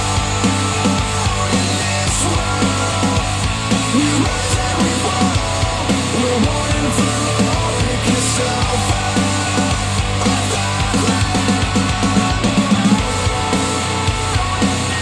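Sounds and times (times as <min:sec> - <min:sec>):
rock music through speakers: 0:00.0 - 0:15.0.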